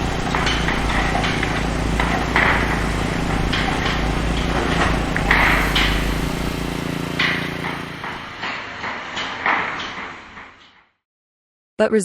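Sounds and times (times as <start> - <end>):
low mechanical rumble and hum: 0.0 - 10.1
irregular knocks and clatter: 0.0 - 11.0.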